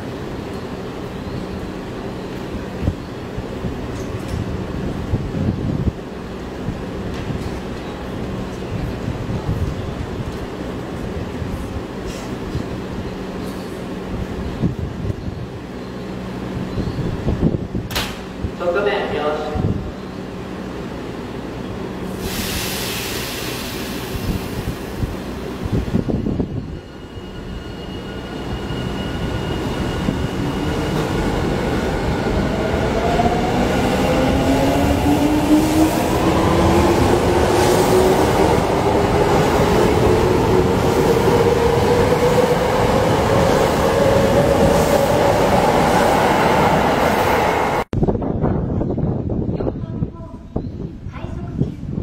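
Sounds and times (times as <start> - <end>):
rumble of train wheels: 0.0 - 52.0.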